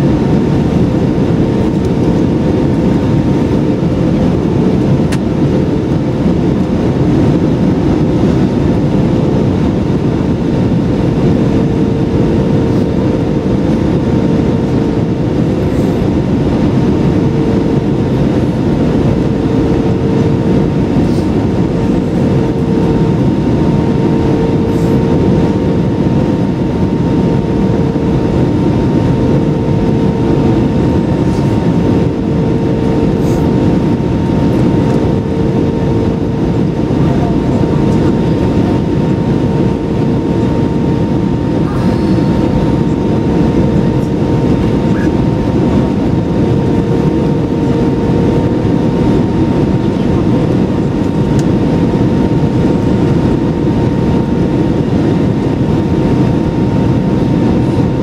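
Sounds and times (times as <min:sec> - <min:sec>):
airplane cabin engine roar: 0:00.0 - 0:58.0.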